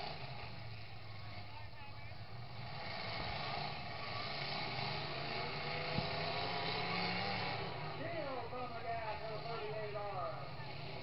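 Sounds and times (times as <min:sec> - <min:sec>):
truck engines running: 0:00.0 - 0:11.0.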